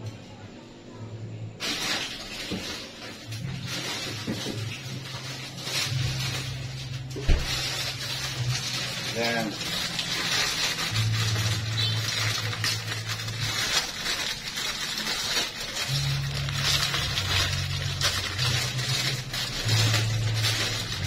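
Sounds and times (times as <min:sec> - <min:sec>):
plastic packaging crinkling: 0:01.6 - 0:21.0
background music with bass: 0:03.4 - 0:21.0.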